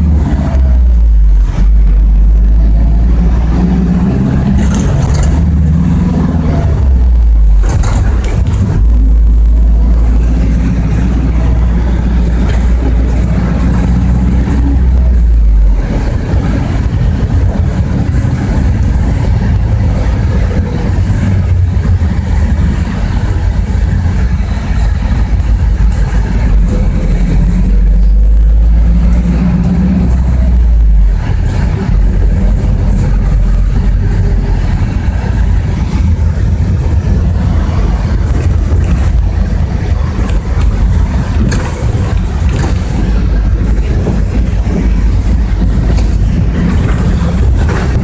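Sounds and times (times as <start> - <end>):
bus diesel engine rumble: 0.0 - 48.0
road noise: 0.0 - 48.0.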